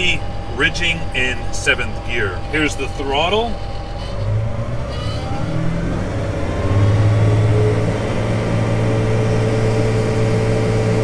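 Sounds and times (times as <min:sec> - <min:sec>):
diesel engine revving up: 0:00.0 - 0:11.0.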